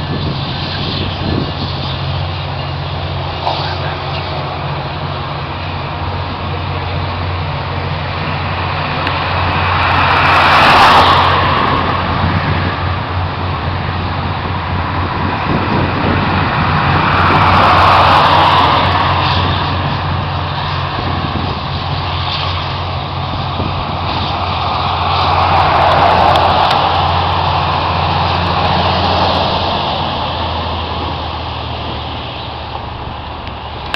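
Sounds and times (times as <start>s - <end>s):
diesel locomotive engine drone: 0.0s - 33.9s
rushing train noise: 0.0s - 33.9s.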